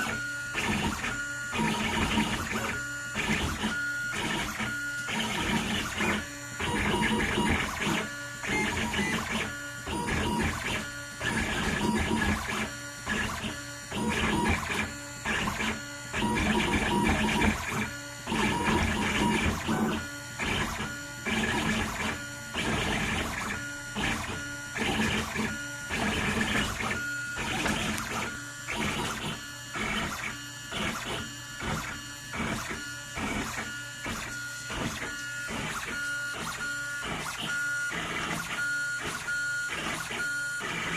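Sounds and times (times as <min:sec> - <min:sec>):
stepper motors whining: 0:00.0 - 0:40.9.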